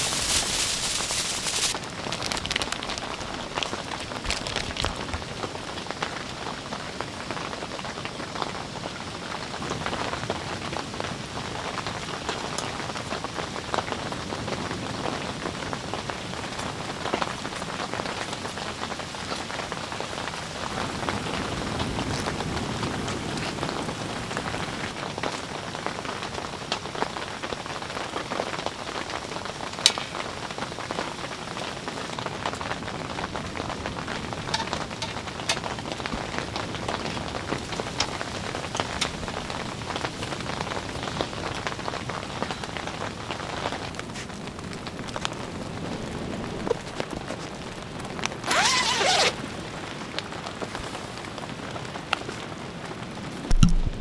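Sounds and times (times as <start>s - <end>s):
steady rain on a surface: 0.0s - 53.4s.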